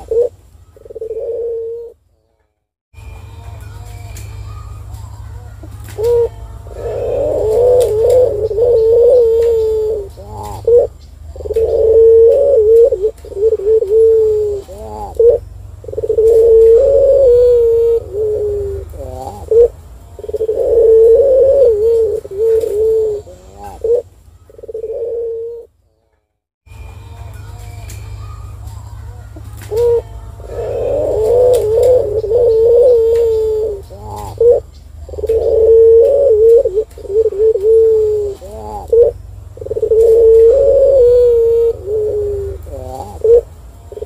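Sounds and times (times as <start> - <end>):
dove cooing: 0.0 - 2.0, 5.6 - 25.7, 29.4 - 44.0
steady low hum: 0.0 - 44.0.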